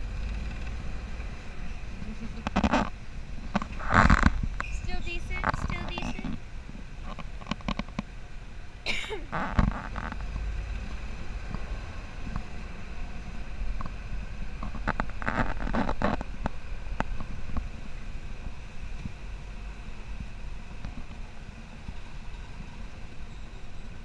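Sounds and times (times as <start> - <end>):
buggy engine rumble: 0.0 - 24.0
wind rumble: 0.0 - 24.0.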